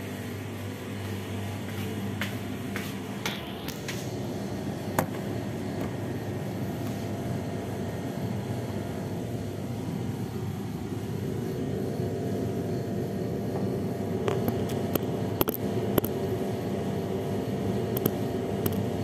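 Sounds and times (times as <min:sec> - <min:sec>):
fan droning: 0:00.0 - 0:19.0.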